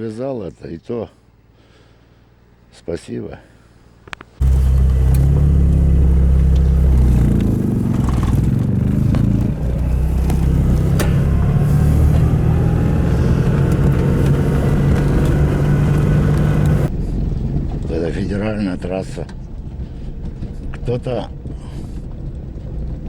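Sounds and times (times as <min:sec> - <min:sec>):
vehicle engine rumbling: 0:03.8 - 0:23.0.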